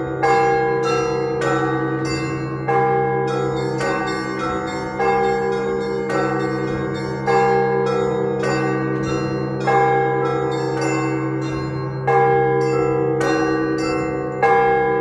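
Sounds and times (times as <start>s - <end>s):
deep bell hum: 0.0s - 15.0s
heavy church bell strokes: 0.0s - 15.0s
smaller bells ringing quickly: 0.0s - 15.0s.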